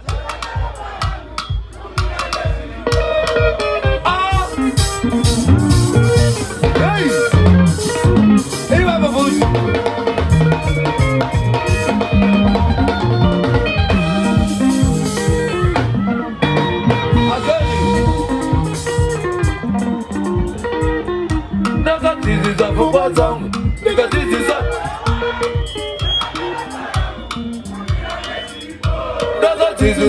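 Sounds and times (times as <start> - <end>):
drum kit: 0.0 - 30.0
bass guitar: 2.1 - 30.0
electric guitars: 2.7 - 28.5, 29.2 - 30.0.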